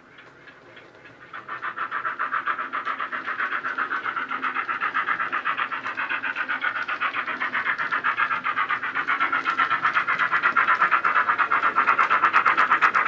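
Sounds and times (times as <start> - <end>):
model locomotive steam chuffing: 0.0 - 13.0.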